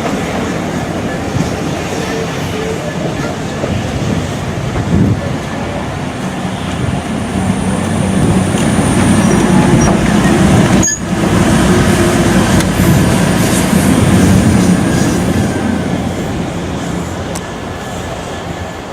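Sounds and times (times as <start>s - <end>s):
steam train running: 0.0s - 18.9s.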